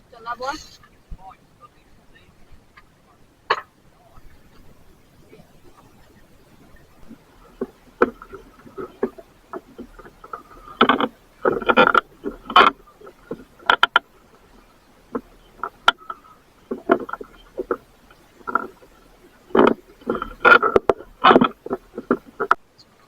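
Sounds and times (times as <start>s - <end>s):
knocks and clatters on a boat: 0.4s - 1.4s, 2.4s - 22.6s.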